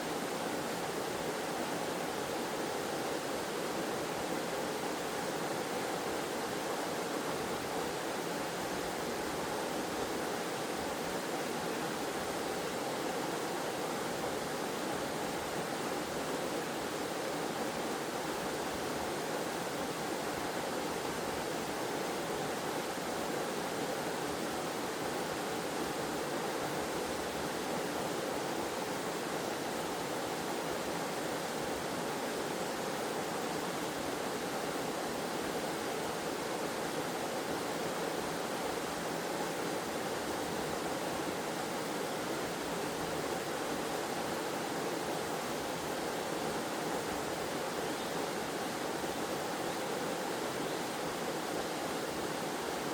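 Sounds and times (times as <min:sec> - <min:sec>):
waterfall cascading: 0:00.0 - 0:52.9.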